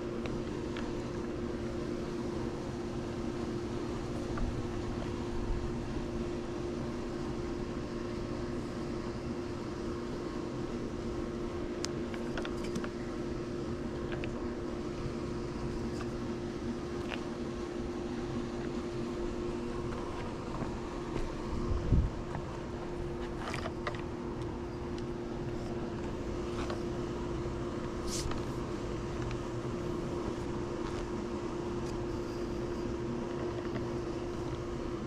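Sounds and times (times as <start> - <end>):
pool pump motor humming: 0.0 - 35.0.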